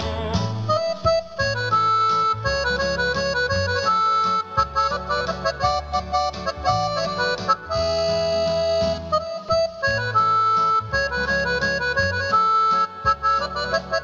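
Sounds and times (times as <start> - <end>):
keyboard accordion melody: 0.0 - 14.0
pulsing bass and backing rhythm: 0.0 - 14.0.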